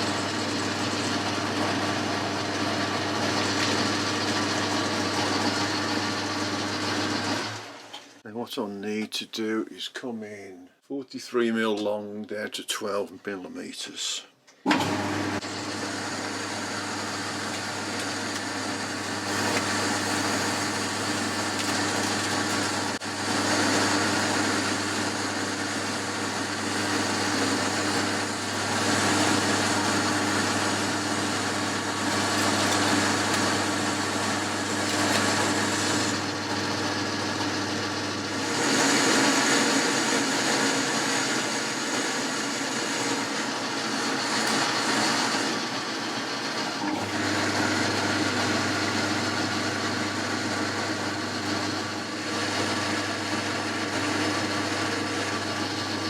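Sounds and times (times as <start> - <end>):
metal lathe humming: 0.0 - 7.9, 14.7 - 56.0.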